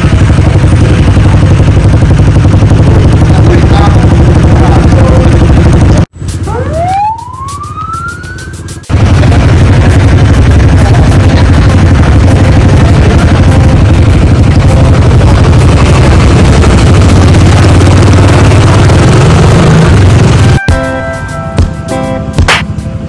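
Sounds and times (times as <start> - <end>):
motorcycle engines running: 0.0 - 20.6.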